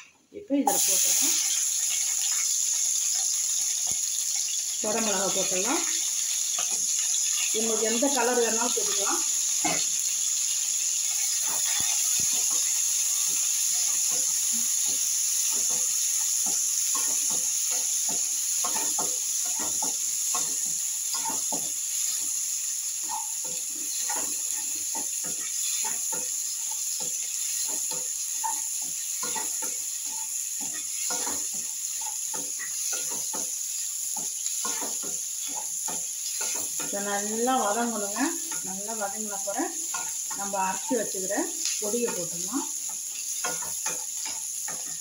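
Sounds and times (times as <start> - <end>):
vegetables sizzling in oil: 0.0 - 45.0.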